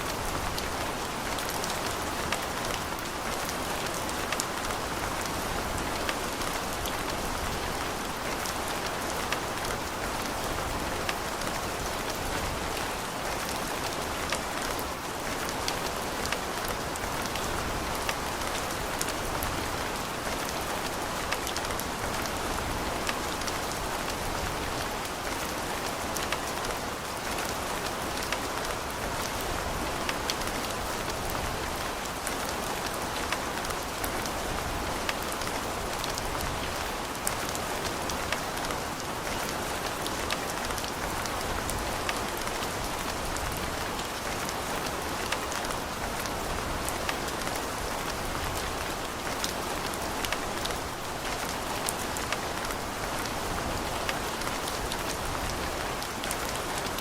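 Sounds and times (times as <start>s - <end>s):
rain drops pattering on surface: 0.0s - 57.0s.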